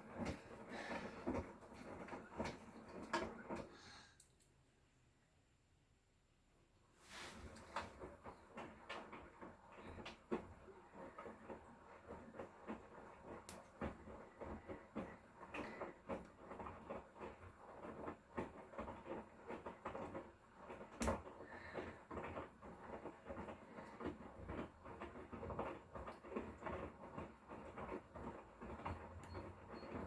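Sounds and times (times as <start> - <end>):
laundry tumbling in washing machine: 0.0 - 4.1, 6.9 - 30.0.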